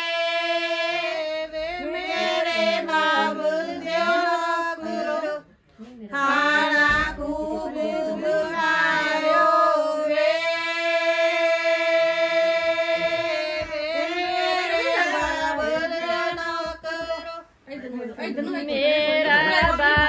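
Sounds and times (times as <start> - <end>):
women singing unaccompanied folk song: 0.0 - 20.0.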